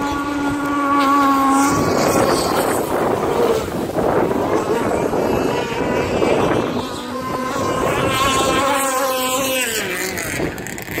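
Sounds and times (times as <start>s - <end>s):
rc boat motor buzzing: 0.0s - 11.0s
wind rumbling on microphone: 0.0s - 11.0s.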